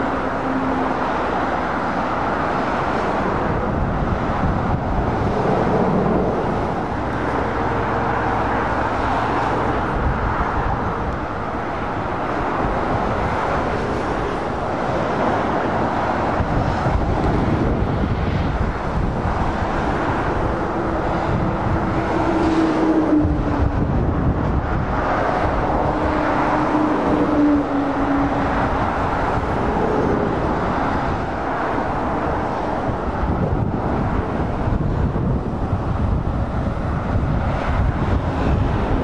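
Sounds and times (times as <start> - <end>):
road traffic passing: 0.0 - 39.0.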